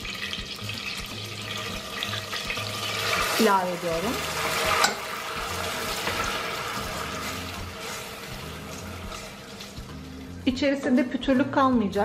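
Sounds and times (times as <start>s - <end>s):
water pouring into a pot: 0.0s - 10.4s.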